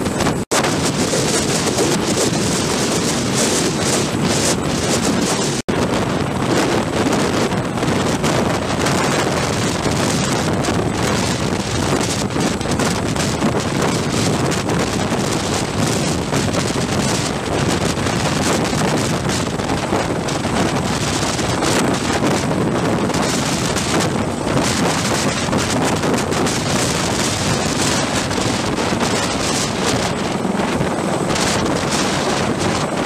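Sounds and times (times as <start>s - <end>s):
downwash buffeting microphone: 0.0s - 33.0s
helicopter rotor noise: 0.0s - 33.0s.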